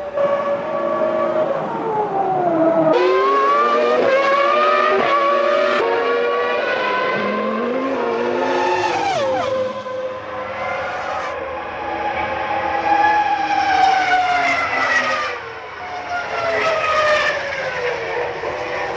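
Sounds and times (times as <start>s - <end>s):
racing car engine at high revs: 0.0s - 18.9s.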